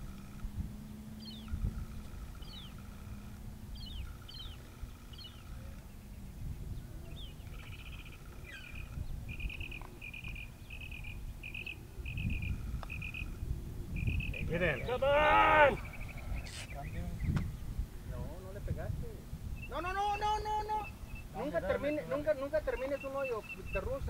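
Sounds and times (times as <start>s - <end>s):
buzzy bird notes: 0.0s - 18.0s, 19.2s - 24.0s.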